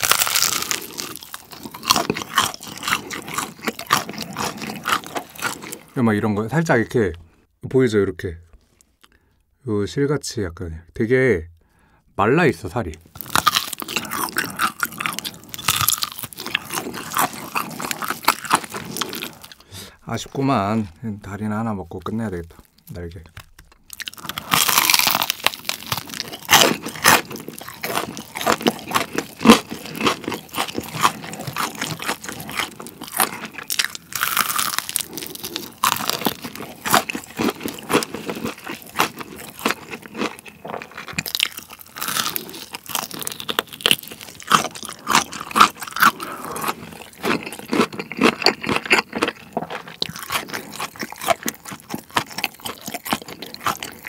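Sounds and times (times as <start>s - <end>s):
crunching and chewing food: 0.0s - 6.0s, 13.0s - 20.5s, 22.0s - 54.0s.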